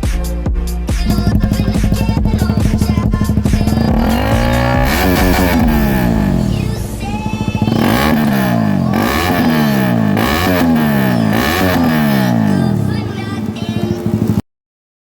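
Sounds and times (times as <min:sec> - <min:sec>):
motorcycle engine revving: 0:01.0 - 0:14.4.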